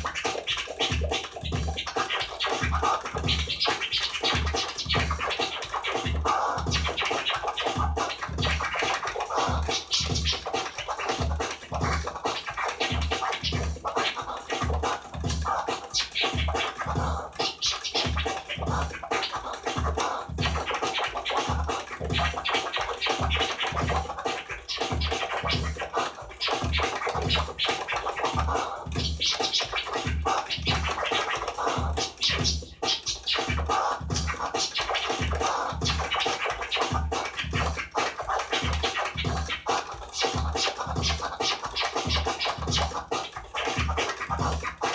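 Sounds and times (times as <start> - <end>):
dj scratching: 0.0 - 44.9
electronic beat with kick drum: 0.0 - 44.9.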